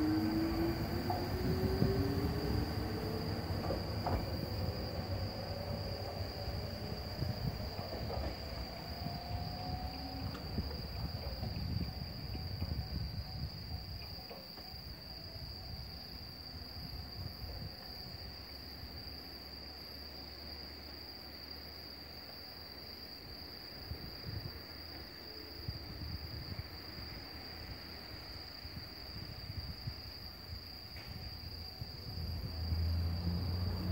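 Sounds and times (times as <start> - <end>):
crickets chirring: 0.0 - 33.9
low train rumble: 0.0 - 33.9.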